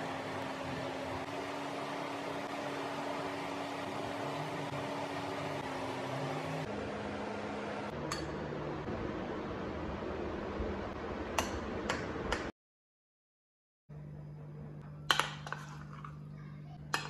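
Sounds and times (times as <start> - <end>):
steady mechanical hum: 0.0 - 12.5, 13.9 - 17.0.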